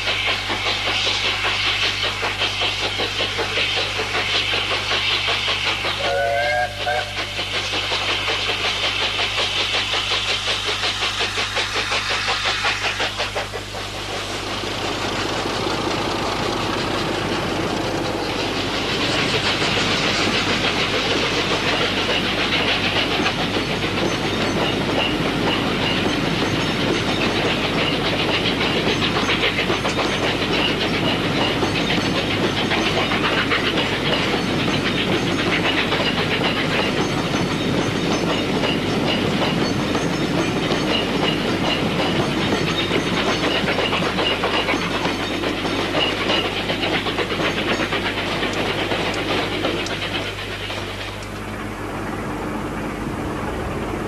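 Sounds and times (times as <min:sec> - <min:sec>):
steam hissing: 0:00.0 - 0:54.0
train rumble: 0:00.0 - 0:54.0
train wheels clicking on rail joints: 0:00.0 - 0:54.0.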